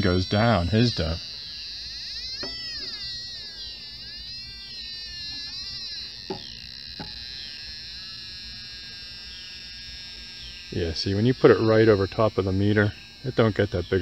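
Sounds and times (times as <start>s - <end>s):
wavering high electronic tones: 0.0s - 14.0s.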